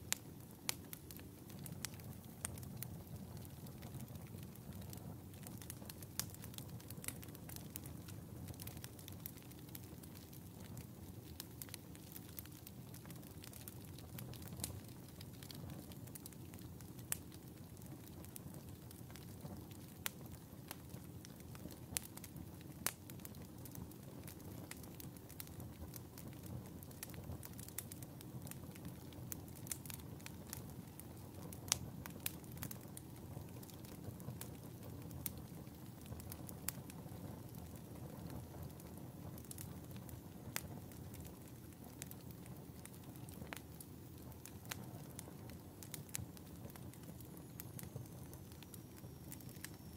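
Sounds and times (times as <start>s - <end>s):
fire crackling and popping: 0.0s - 49.9s
fire flames rumbling: 0.0s - 49.9s.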